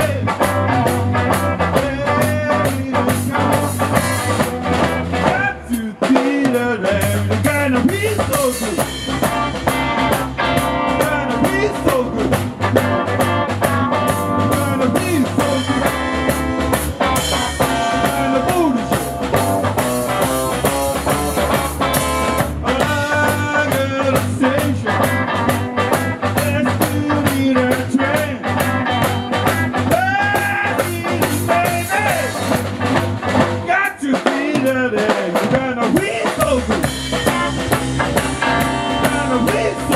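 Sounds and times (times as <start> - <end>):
rock band music: 0.0 - 39.9.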